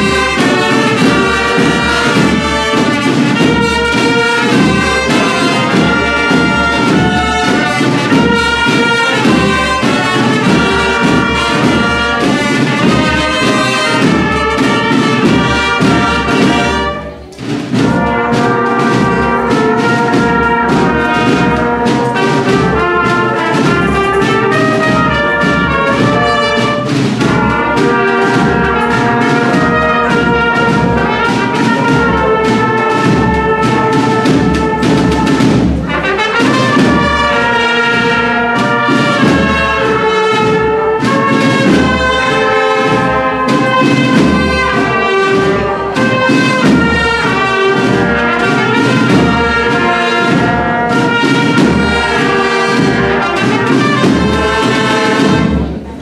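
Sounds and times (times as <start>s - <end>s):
brass instruments playing: 0.0s - 56.0s
snare and bass drums: 0.0s - 56.0s.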